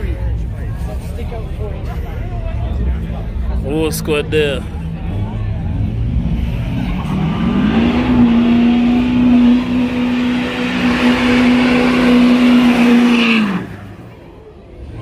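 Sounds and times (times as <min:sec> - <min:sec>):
car engine revving: 0:02.6 - 0:15.0.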